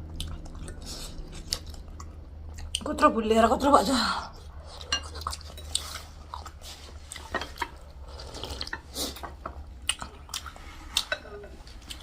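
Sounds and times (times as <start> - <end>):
person chewing and slurping soup: 0.0 - 2.8, 4.4 - 12.0.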